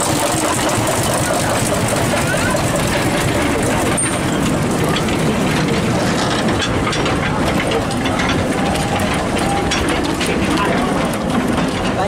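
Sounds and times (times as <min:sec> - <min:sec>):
train wheels clicking over rails: 0:00.0 - 0:12.0.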